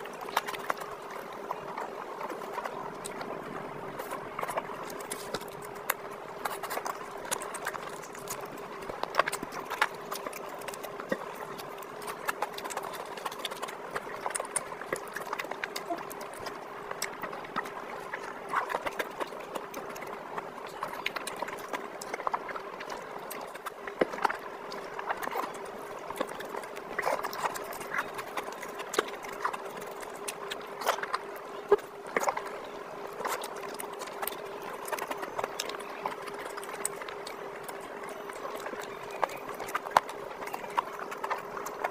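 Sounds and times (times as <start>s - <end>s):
chewing and lip-smacking: 0.0s - 41.9s.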